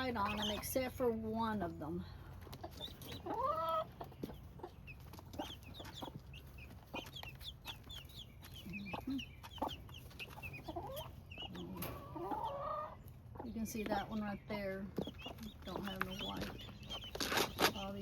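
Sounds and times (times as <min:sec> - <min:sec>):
hen clucking: 0:00.0 - 0:18.0
keets peeping: 0:00.0 - 0:18.0.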